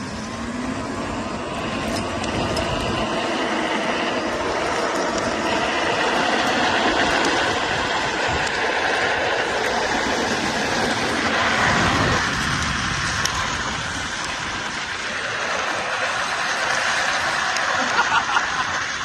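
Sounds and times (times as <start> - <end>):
vehicle rumbling and rattling: 0.0 - 19.0.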